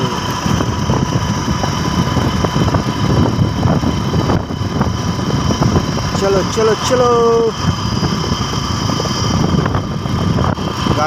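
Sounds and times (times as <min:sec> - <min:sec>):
motorbike engine running: 0:00.0 - 0:11.0
wind rumbling over microphone: 0:00.0 - 0:11.0.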